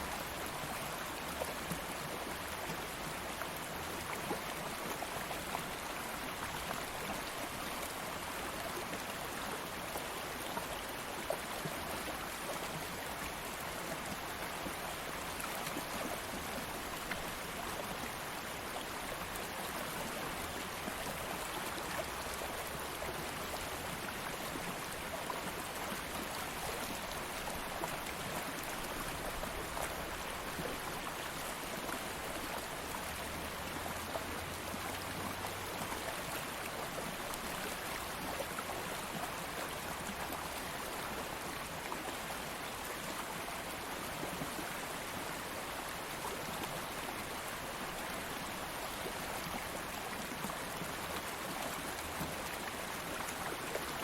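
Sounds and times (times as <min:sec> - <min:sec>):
stream flowing with splashes: 0:00.0 - 0:54.0.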